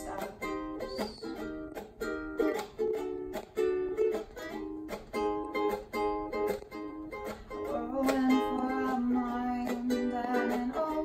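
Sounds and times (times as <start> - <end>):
ukulele strumming chords: 0.0 - 11.0.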